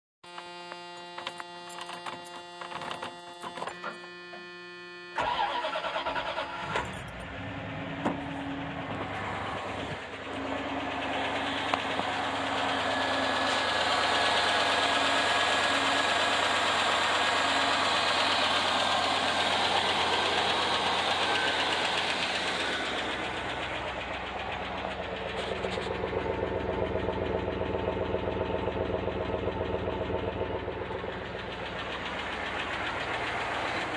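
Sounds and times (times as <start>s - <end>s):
car engine starting and idling: 5.2s - 33.9s
exhaust pulses: 6.6s - 33.9s.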